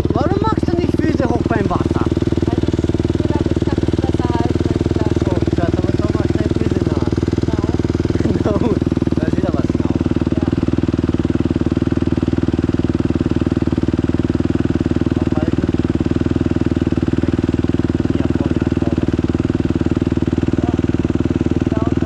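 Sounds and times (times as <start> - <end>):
dirt bike engine running steadily: 0.0 - 22.0.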